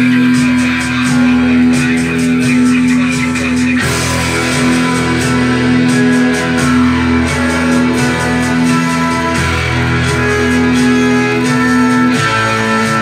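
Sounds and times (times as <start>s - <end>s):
guitar rock music from speakers: 0.0s - 13.0s.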